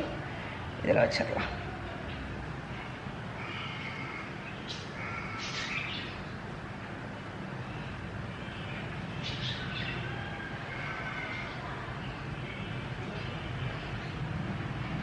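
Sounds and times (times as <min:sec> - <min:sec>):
birds chirping: 0:00.0 - 0:15.0
steady background hiss: 0:00.0 - 0:15.0.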